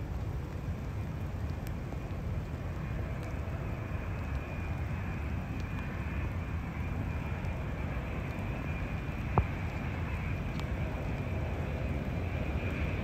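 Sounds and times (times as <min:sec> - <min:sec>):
faint high whine: 0:00.0 - 0:13.0
jet engine rumble: 0:00.0 - 0:13.0.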